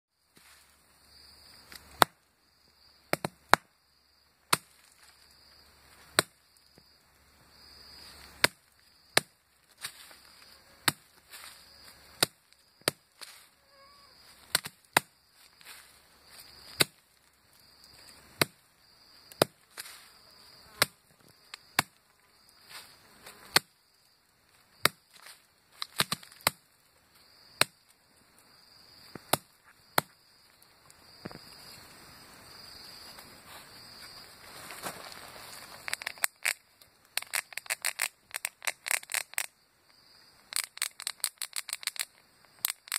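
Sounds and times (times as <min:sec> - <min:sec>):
insects chirring: 0:00.1 - 0:42.9.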